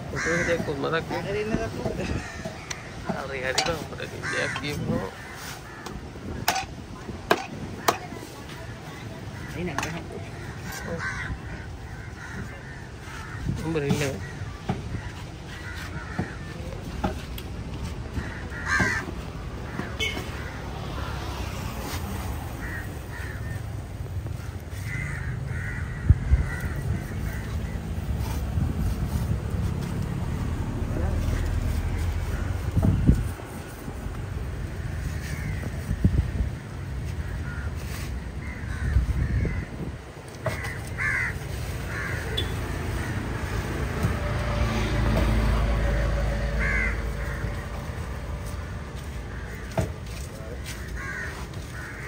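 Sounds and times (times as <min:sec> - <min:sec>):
crows cawing: 0:00.0 - 0:06.8, 0:07.4 - 0:17.3, 0:18.1 - 0:21.2, 0:22.6 - 0:28.2, 0:34.7 - 0:44.8, 0:45.4 - 0:52.0.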